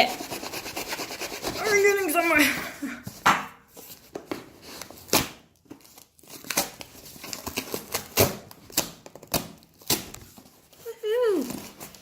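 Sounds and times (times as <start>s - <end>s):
knife cutting cardboard parcel: 0.0s - 2.2s, 3.8s - 12.0s.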